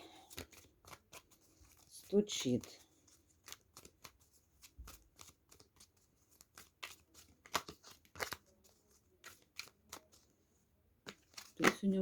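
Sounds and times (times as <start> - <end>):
cards being shuffled: 0.2 - 10.3, 11.0 - 12.0.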